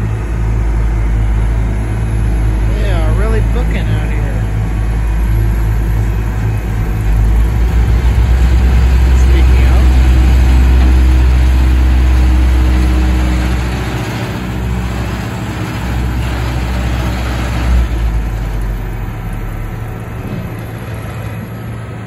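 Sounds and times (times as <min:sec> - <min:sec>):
heavy diesel engines rumbling: 0:00.0 - 0:22.0.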